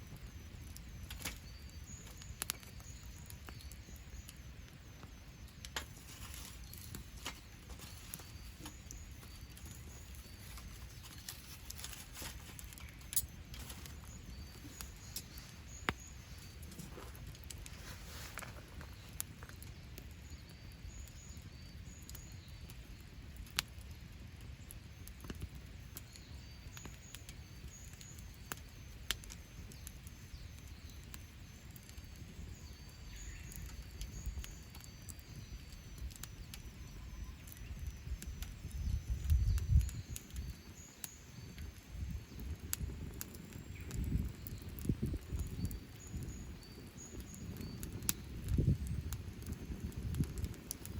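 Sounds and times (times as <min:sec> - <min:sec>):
campfire crackling and popping: 0:00.0 - 0:50.9
faint bird chirps: 0:00.0 - 0:50.9.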